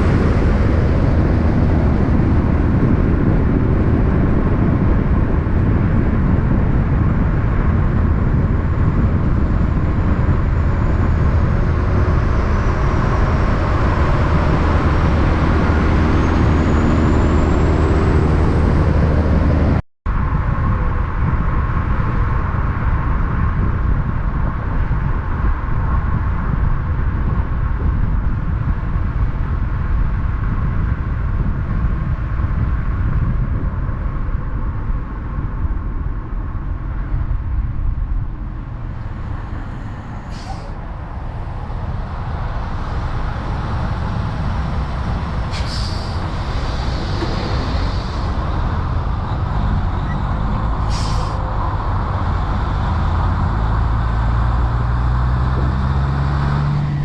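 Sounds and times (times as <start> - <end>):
diesel truck engine rumbling: 0.0 - 57.0
road noise: 0.0 - 57.0.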